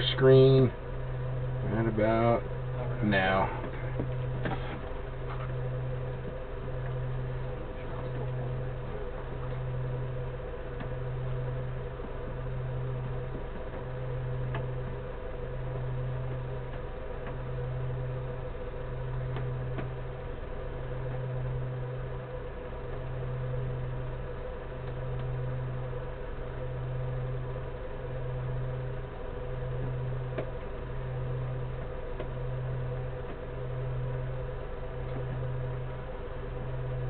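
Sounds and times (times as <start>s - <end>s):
faint drone: 0.0s - 37.0s
machine hum: 0.0s - 37.0s.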